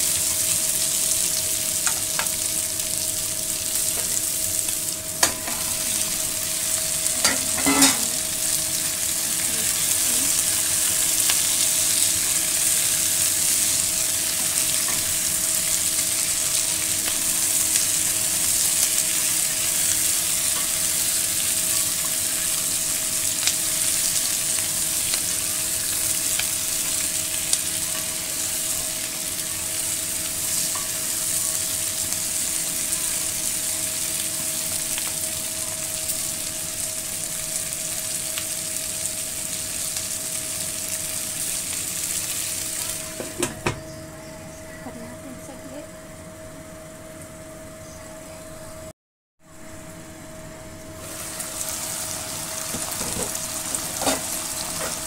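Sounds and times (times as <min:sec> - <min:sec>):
food sizzling in a pot: 0:00.0 - 0:44.2, 0:49.4 - 0:55.0.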